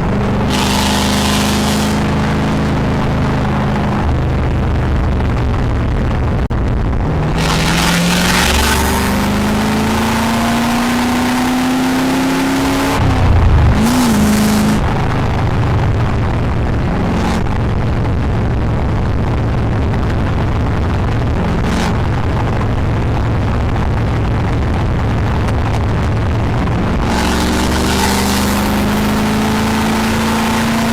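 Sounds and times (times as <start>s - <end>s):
rushing noise: 0.0s - 29.6s
car engine accelerating: 0.0s - 30.9s.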